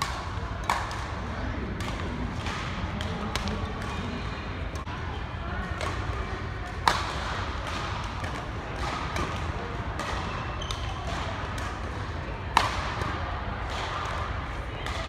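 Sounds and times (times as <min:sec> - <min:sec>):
background chatter: 0:00.0 - 0:15.0.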